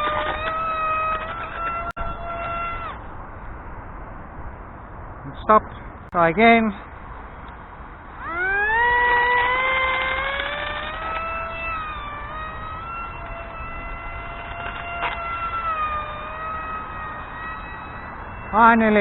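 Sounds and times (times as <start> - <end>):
electric motor and propeller whine: 0.0 - 4.9, 6.9 - 19.0.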